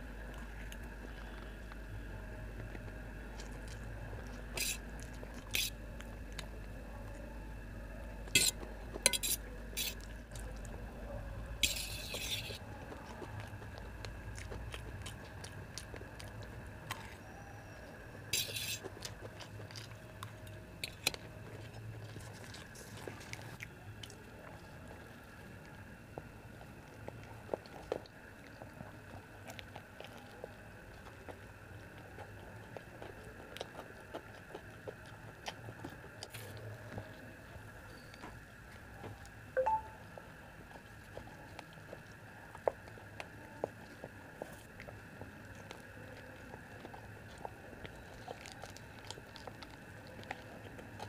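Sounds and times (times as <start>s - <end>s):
faint steady hum: 0.0s - 51.0s
soft chewing: 0.0s - 51.0s.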